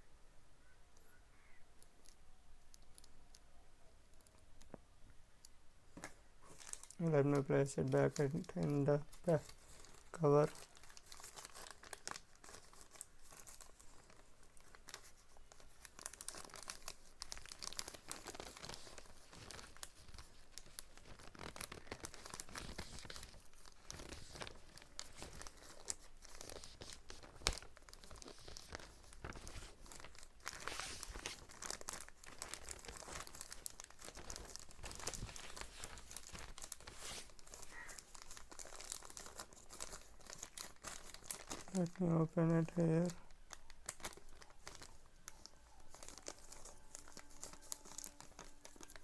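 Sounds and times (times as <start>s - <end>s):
packaging rustling and crinkling: 5.9s - 49.0s.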